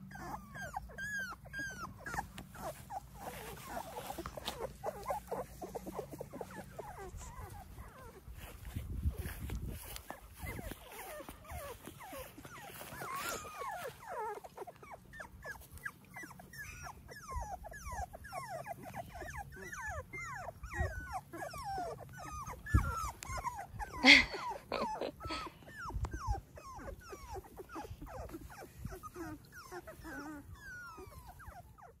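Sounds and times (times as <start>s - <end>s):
puppies whimpering and squeaking: 0.0s - 32.0s.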